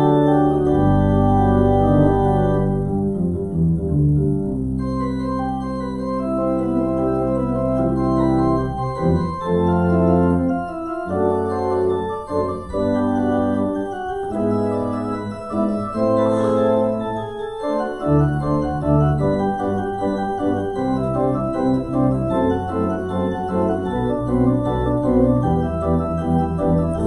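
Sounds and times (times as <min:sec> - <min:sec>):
church organ chords: 0:00.0 - 0:27.0.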